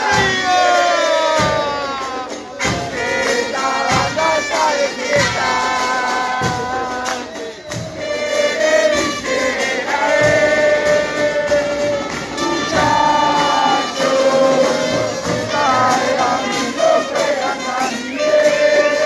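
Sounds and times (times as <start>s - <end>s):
crowd singing a chant: 0.0s - 19.0s
drum beating steadily: 0.0s - 19.0s.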